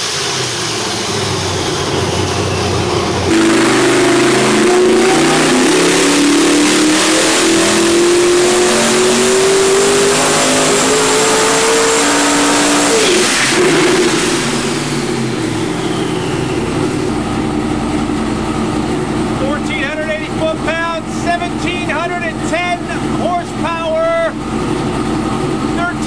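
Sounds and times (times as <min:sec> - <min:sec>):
engine revving at full throttle: 0:00.0 - 0:26.0.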